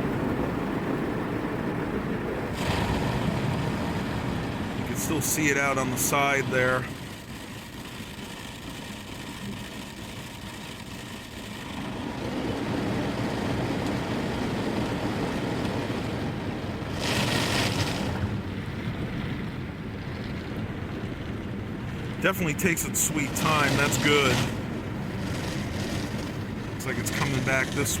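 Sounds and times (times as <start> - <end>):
car wash gantry rushing: 0.0 - 28.0.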